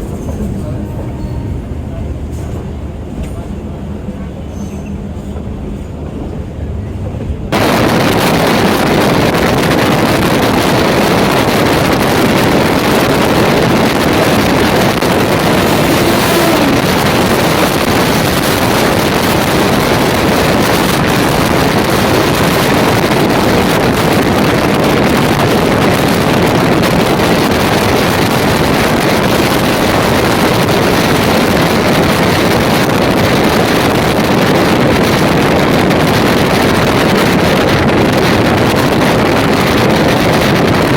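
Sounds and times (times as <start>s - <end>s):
train wheels on rail: 0.0s - 40.9s
wind on microphone: 5.4s - 40.9s.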